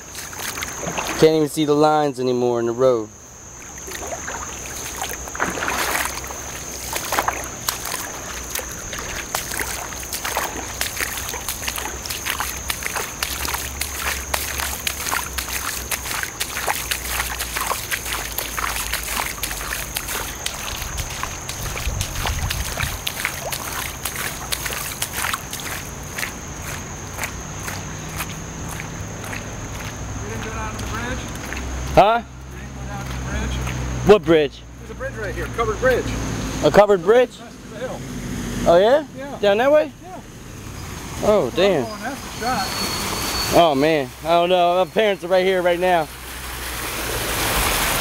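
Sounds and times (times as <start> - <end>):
footsteps wading through water: 0.0 - 2.4, 3.1 - 34.3, 41.6 - 48.0.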